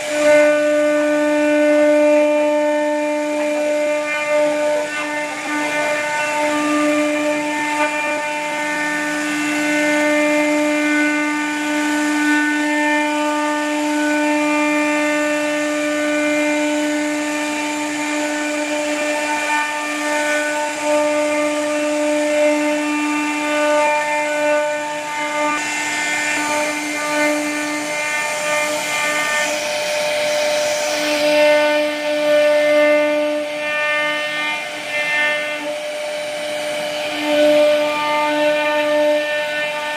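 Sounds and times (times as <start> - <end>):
router bit cutting wood: 0.0 - 39.9
router spindle whining: 0.0 - 39.9.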